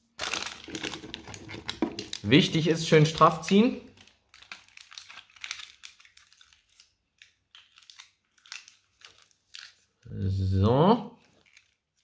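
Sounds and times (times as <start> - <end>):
aluminium foil crinkling: 0.0 - 10.1, 11.2 - 12.0.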